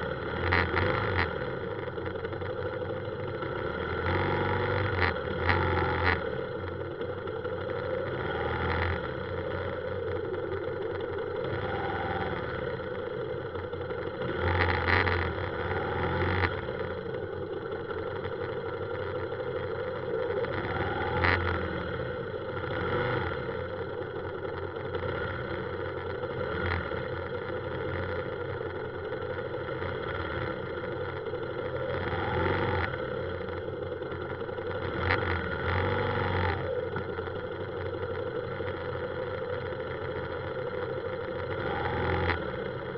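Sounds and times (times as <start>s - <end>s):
motorbike engines running slowly: 0.0s - 42.9s.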